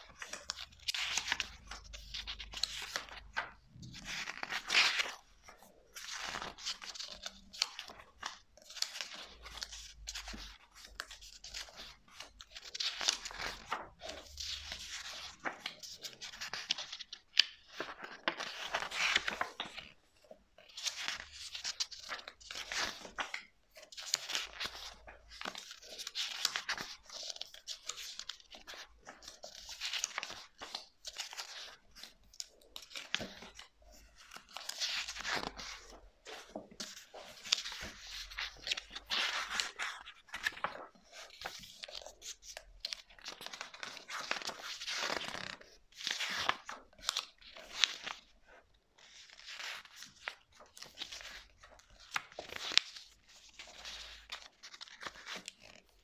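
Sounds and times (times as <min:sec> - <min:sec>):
book pages turning: 0:00.0 - 0:56.0.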